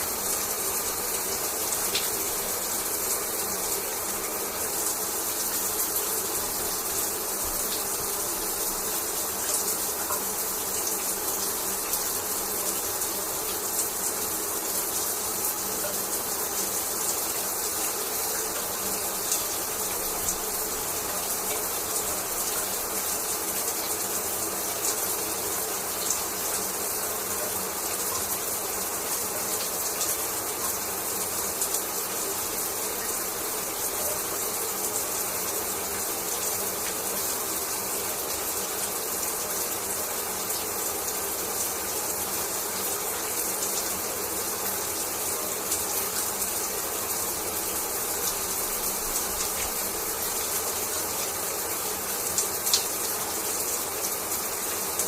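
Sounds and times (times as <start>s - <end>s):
shower spray hissing: 0.0s - 55.0s.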